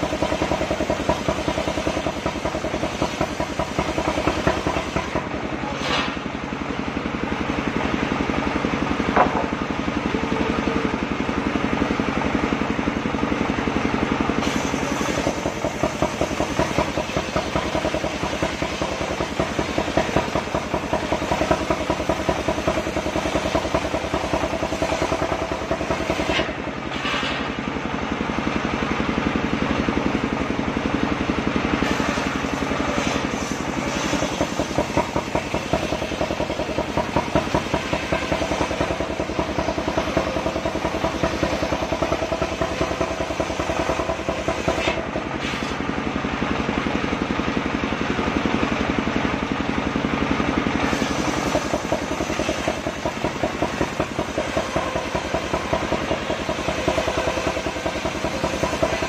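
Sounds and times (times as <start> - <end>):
circular sawmill blade cutting log: 0.0 - 12.7, 14.2 - 27.6, 31.6 - 46.8, 50.7 - 59.0
sawmill engine running: 0.0 - 59.0.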